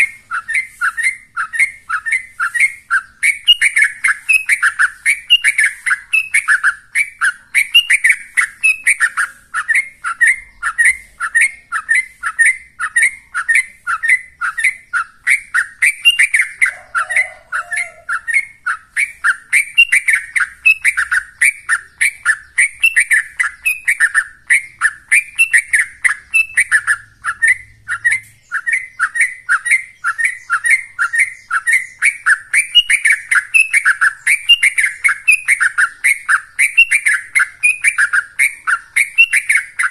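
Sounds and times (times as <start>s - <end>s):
bulbul chirping rapidly: 0.0s - 39.9s.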